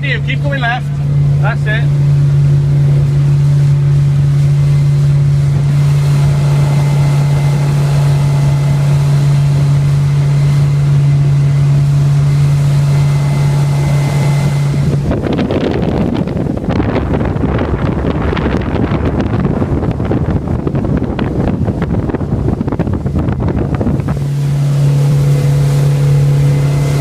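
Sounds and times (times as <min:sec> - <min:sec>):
boat engine droning: 0:00.0 - 0:27.0
wind buffeting microphone: 0:00.0 - 0:27.0.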